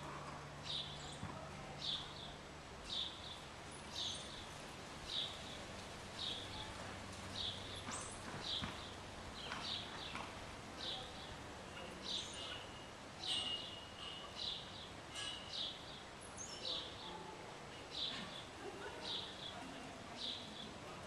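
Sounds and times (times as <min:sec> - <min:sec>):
small birds chirping: 0:00.5 - 0:20.8.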